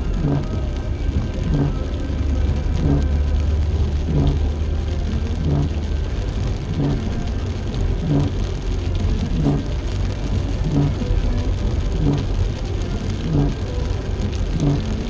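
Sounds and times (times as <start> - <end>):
car engine and road rumble: 0.0 - 15.0
windshield wipers sweeping: 0.0 - 15.0.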